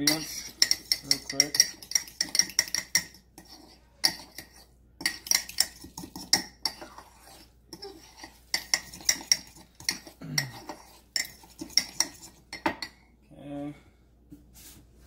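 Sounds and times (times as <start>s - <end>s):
fork clinking in a mug: 0.0s - 13.0s.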